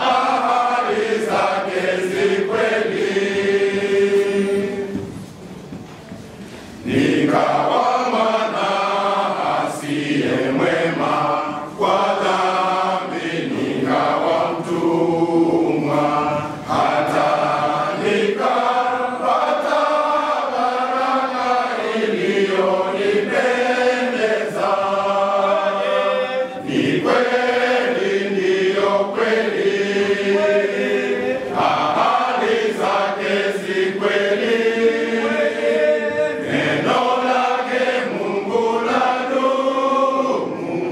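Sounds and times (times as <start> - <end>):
men's choir singing a hymn: 0.0 - 5.4, 6.6 - 40.9.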